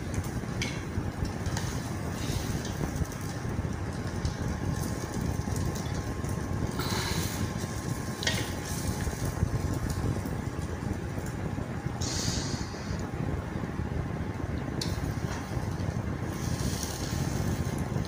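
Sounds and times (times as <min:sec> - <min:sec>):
low cooking rumble: 0:00.0 - 0:18.0.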